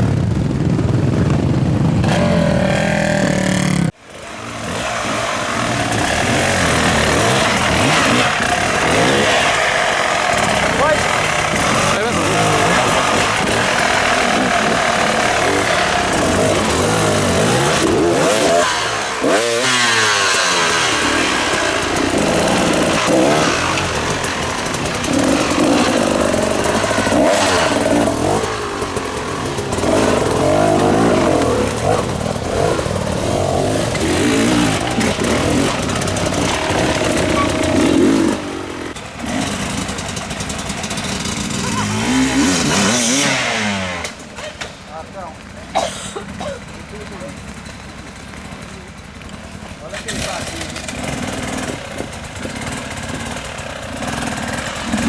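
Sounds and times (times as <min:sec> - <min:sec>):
motorcycle engines revving past: 0:00.0 - 0:55.0.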